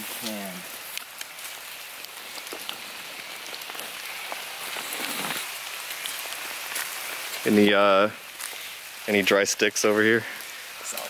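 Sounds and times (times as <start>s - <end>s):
rain on grass and leaves: 0.0s - 11.0s.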